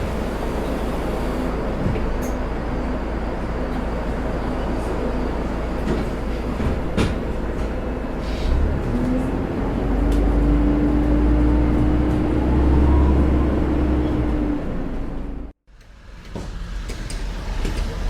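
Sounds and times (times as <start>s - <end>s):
heavy vehicle engine rumble: 0.0s - 18.0s.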